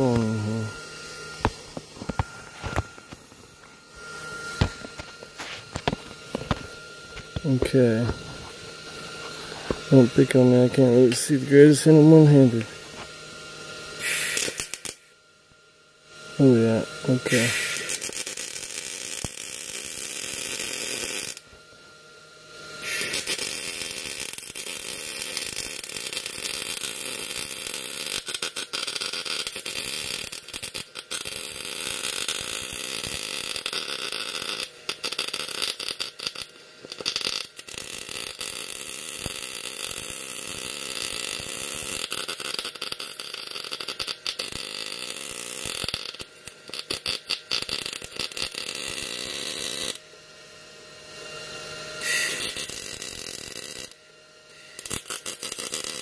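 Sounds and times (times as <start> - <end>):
welding arc crackling: 0.0 - 13.0, 13.9 - 15.1, 16.4 - 21.6, 22.5 - 50.0, 52.0 - 56.0.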